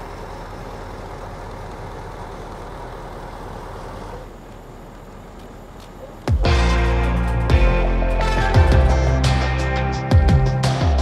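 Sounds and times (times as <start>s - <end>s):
diesel bus engine idling: 0.0s - 11.0s
outdoor noise: 0.0s - 11.0s.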